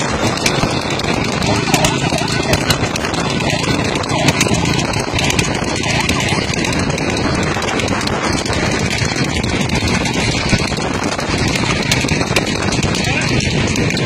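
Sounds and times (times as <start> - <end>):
hoofbeats on tarmac: 0.0 - 14.0
vehicle noise: 0.0 - 14.0
wind rushing: 0.0 - 14.0.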